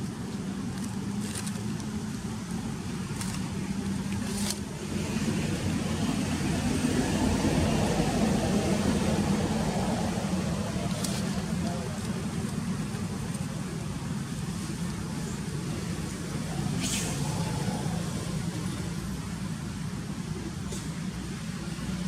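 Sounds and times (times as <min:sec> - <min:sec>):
motor rumble with low hum: 0:00.0 - 0:22.0.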